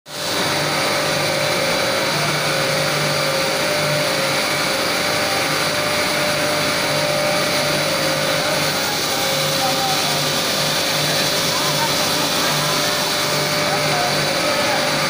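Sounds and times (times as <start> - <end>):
film extrusion machine whirring: 0.1 - 15.0.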